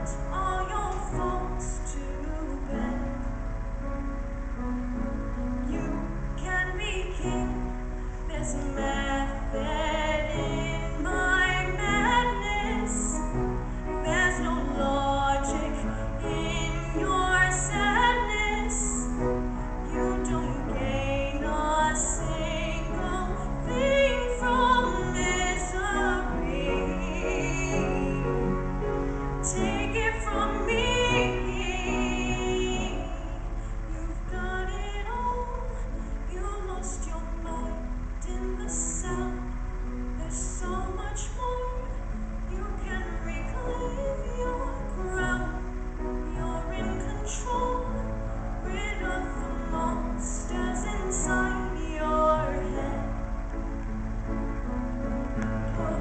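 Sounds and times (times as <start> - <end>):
woman singing into a microphone: 0.0 - 3.3, 5.7 - 53.5, 55.6 - 56.0.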